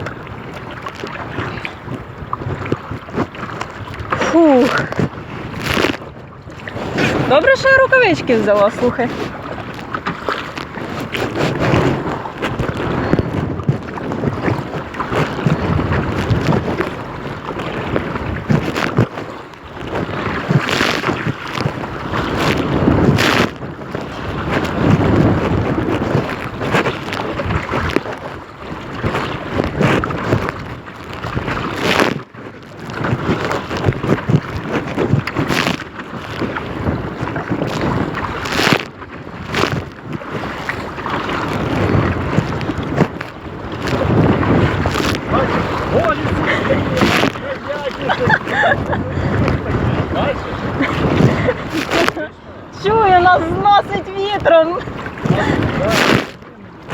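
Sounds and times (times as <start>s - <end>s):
sharp water splashes: 0.0s - 56.9s
water lapping around kayak: 0.0s - 56.9s
wind buffeting microphone: 0.0s - 56.9s.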